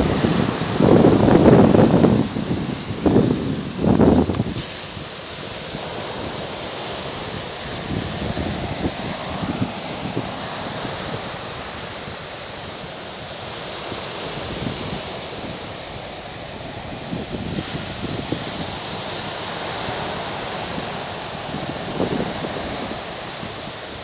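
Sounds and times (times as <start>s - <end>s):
ocean surf washing up: 0.0s - 24.0s
wind buffeting microphone: 0.0s - 24.0s.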